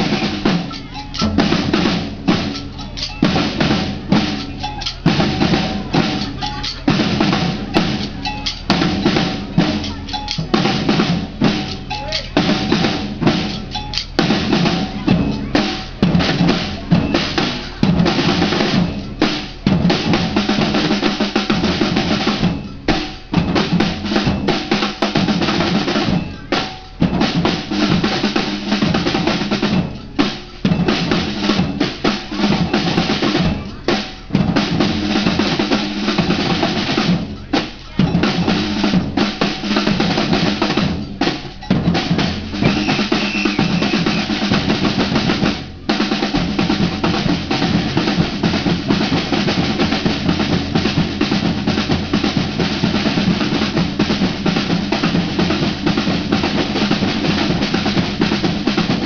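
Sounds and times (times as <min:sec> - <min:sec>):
samba percussion band: 0:00.0 - 0:59.0.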